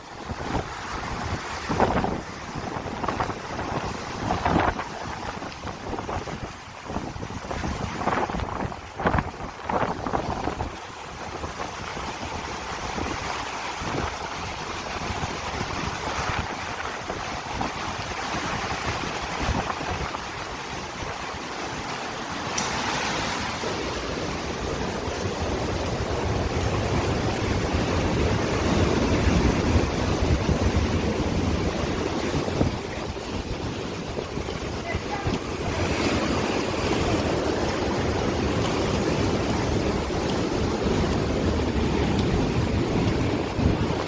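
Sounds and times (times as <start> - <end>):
rough sea surf: 0.0 - 44.0
wind buffeting microphone: 0.0 - 44.0.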